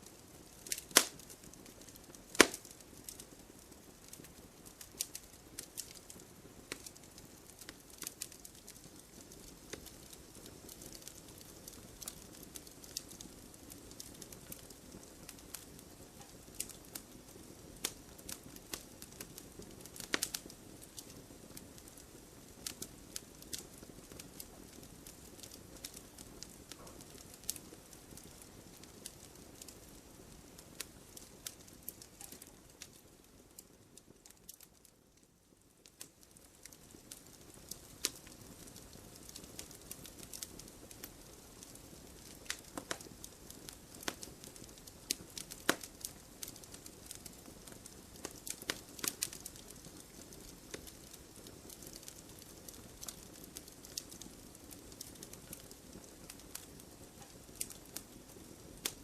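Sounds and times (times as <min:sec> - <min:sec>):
logs crackling and popping: 0:00.0 - 0:59.0
low hiss of flames: 0:00.0 - 0:59.0.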